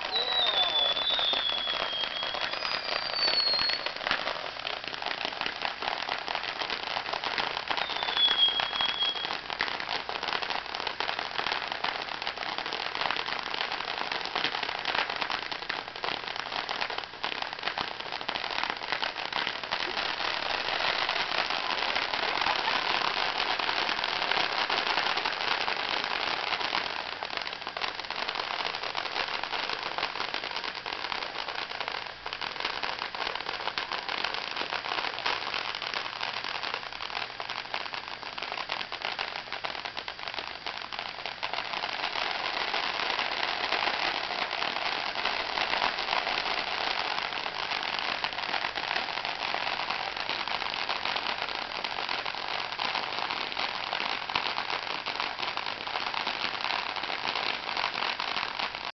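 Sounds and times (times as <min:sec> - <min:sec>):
fireworks crackling hiss: 0:00.0 - 0:59.0.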